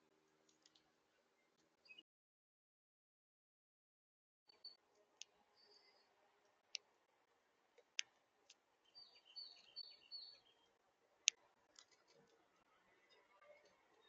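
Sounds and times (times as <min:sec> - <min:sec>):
songbirds chirping: 0:00.0 - 0:02.1, 0:04.5 - 0:14.0.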